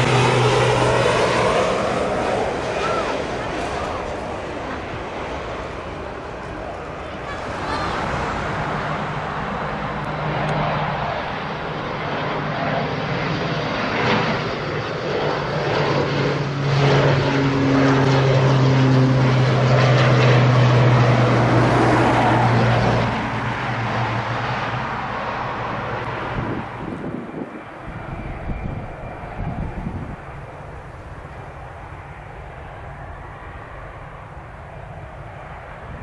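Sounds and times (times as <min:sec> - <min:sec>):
turboprop airliner passing: 0:00.0 - 0:36.0.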